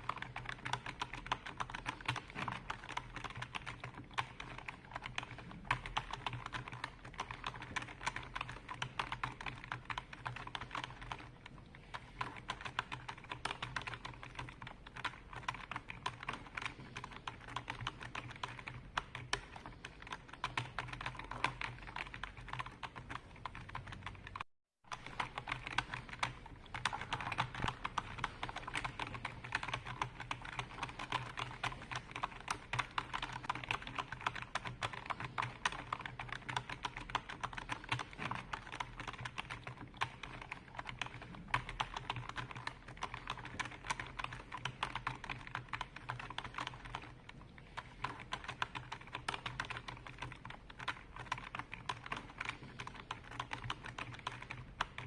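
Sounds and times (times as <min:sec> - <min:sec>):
computer keyboard typing: 0:00.0 - 0:55.0.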